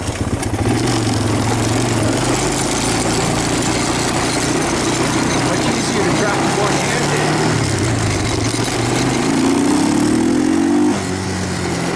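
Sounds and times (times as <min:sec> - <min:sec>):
constant rushing noise: 0:00.0 - 0:11.9
quad bike engine running: 0:00.0 - 0:11.9.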